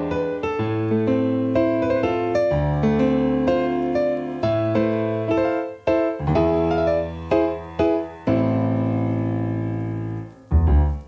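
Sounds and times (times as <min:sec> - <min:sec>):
piano playing notes and chords: 0:00.0 - 0:11.0.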